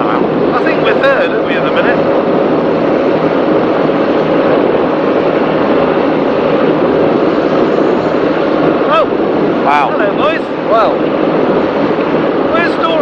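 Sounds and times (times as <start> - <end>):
powerboat engine drone: 0.0 - 13.0
rush of wind and water: 0.0 - 13.0.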